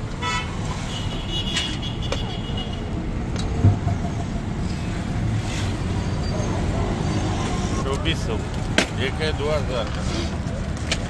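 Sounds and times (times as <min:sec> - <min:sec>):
street traffic rumbling: 0:00.0 - 0:11.0.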